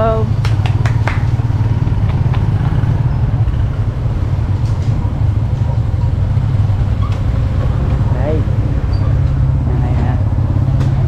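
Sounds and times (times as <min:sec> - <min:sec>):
motor scooter engine rumbling: 0:00.0 - 0:11.0.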